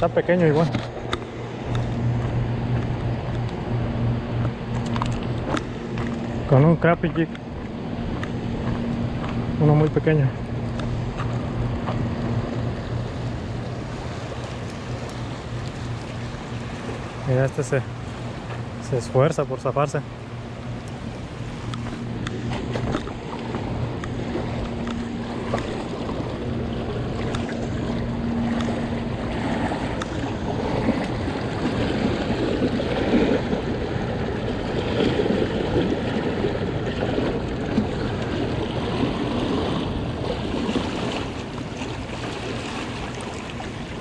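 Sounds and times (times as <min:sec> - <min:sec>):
flowing water rushing: 0:00.0 - 0:44.0
low hum: 0:00.0 - 0:44.0.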